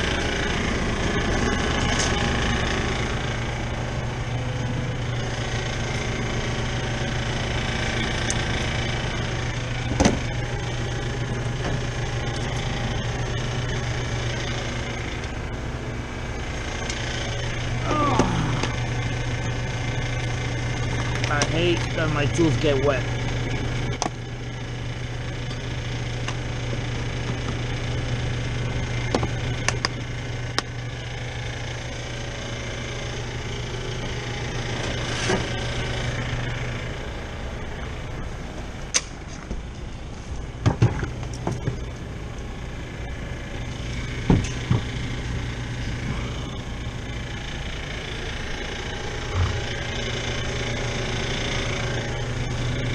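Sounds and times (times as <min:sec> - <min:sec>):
machinery humming: 0:00.0 - 0:52.9.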